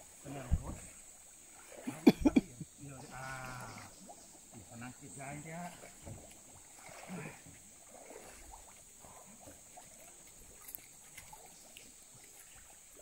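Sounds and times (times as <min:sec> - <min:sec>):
river water sloshing: 0:00.0 - 0:13.0.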